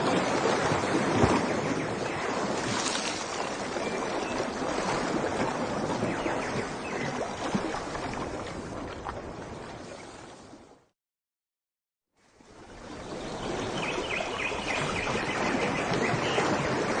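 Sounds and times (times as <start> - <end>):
water trickling and splashing: 0.0 - 10.8, 12.2 - 17.0.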